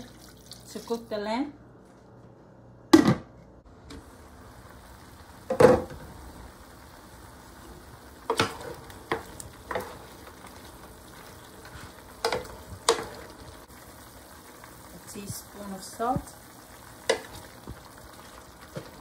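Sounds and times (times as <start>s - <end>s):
meat bubbling and sizzling: 3.7s - 19.0s.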